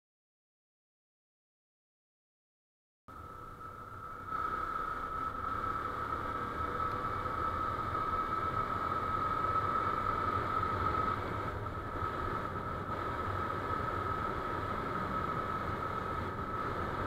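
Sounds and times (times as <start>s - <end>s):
wind and road noise: 3.1s - 17.0s
motorcycle engine running: 3.2s - 17.0s.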